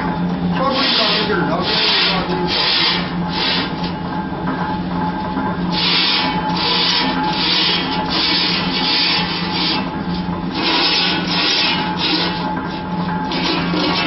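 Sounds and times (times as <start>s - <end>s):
rhythmic scraping strokes: 0.0s - 14.0s
steady low hum: 0.0s - 14.0s.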